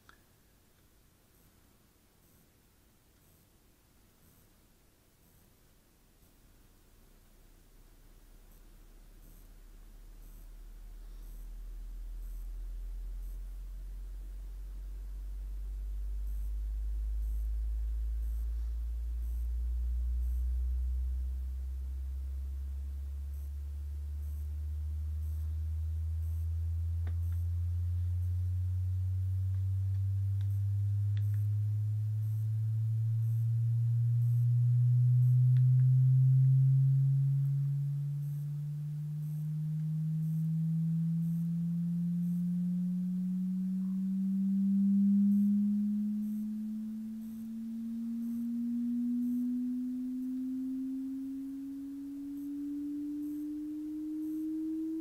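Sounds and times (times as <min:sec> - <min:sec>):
rising sine tone sweep: 0:06.2 - 0:55.0.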